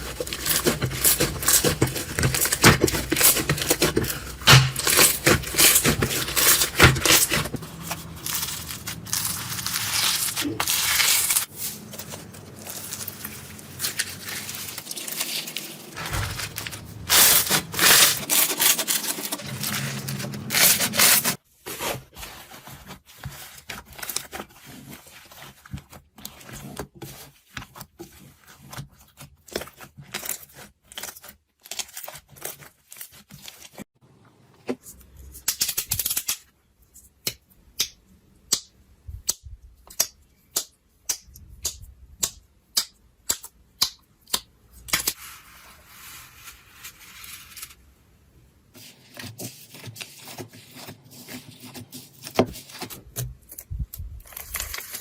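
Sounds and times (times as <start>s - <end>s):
slime crackling and crinkling: 0.0s - 33.9s, 44.8s - 55.0s.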